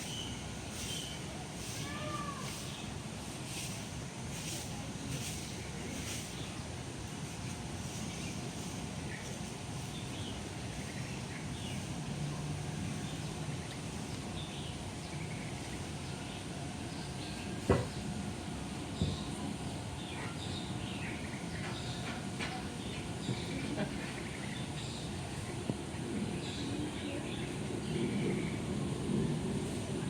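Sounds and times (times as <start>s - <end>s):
background hum: 5.5s - 30.0s.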